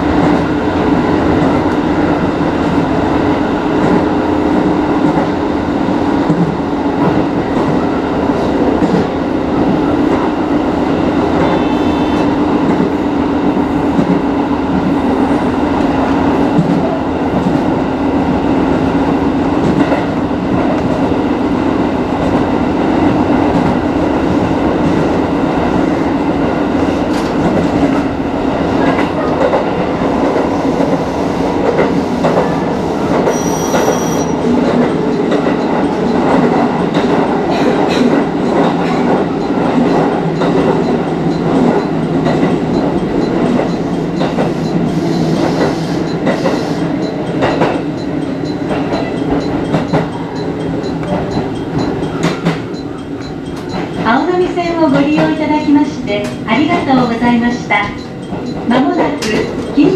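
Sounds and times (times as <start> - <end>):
electric train running: 0.1 - 59.9.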